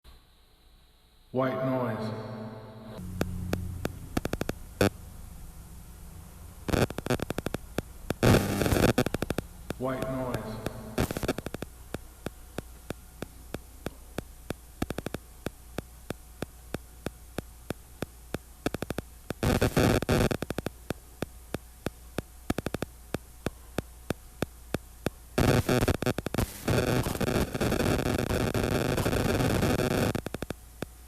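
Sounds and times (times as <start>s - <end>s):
low static hum: 0.0s - 31.0s
sharp static clicks: 0.1s - 31.0s.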